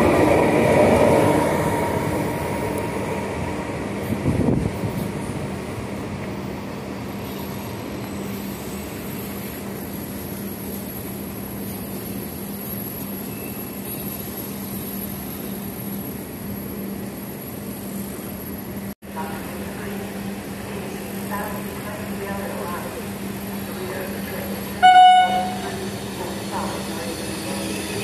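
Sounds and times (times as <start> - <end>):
train rumbling along track: 0.0 - 28.0.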